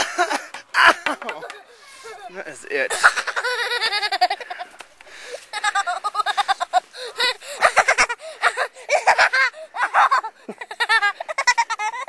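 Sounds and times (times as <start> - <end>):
young boy laughing: 0.0 - 12.0.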